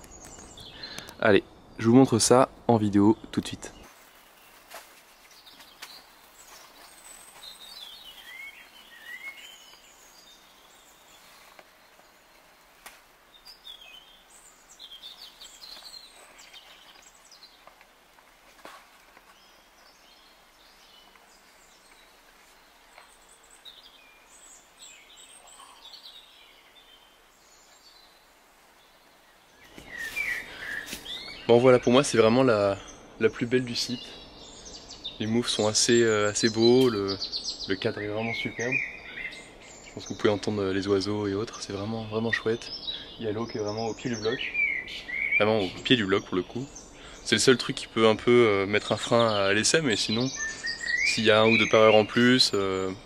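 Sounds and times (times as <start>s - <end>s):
small birds chirping and trilling: 0.0s - 53.0s.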